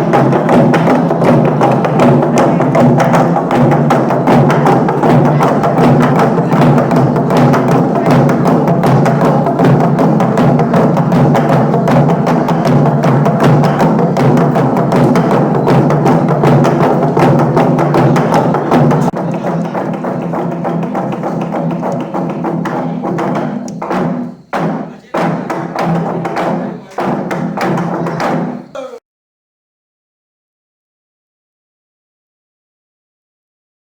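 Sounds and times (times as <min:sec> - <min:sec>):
log drum beaten rapidly: 0:00.0 - 0:28.6.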